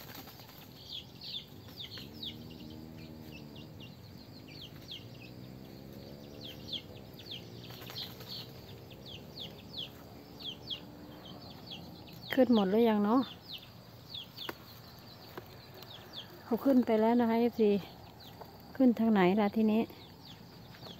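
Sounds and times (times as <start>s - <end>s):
chicks peeping: 0.0s - 18.6s.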